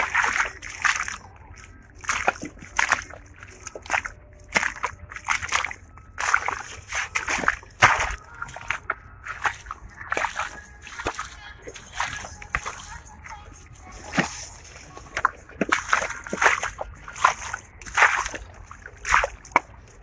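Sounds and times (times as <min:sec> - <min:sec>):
footsteps squelching in mud: 0:00.0 - 0:20.0.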